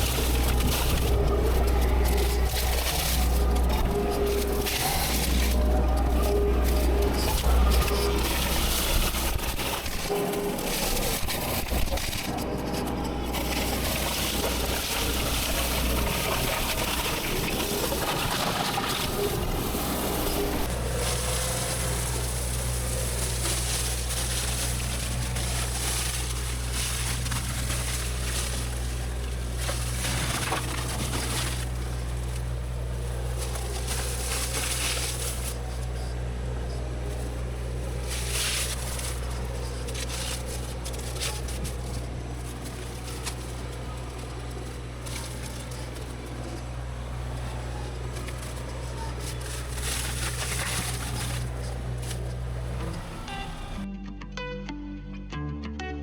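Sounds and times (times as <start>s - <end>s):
diesel engine of heavy machinery: 0.0s - 53.8s.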